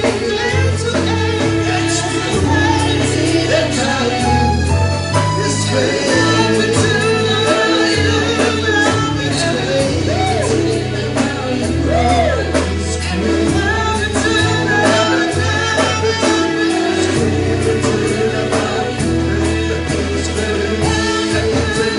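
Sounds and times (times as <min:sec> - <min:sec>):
band with bass: 0:00.0 - 0:21.9
gospel singers: 0:00.0 - 0:21.9.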